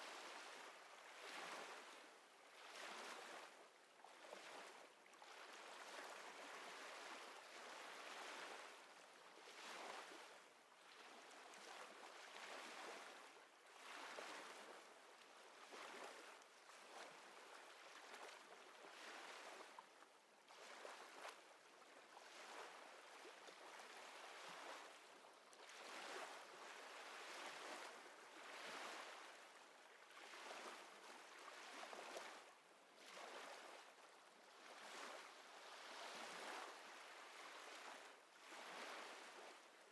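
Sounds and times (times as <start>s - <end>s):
faint water lapping: 0.1s - 39.9s.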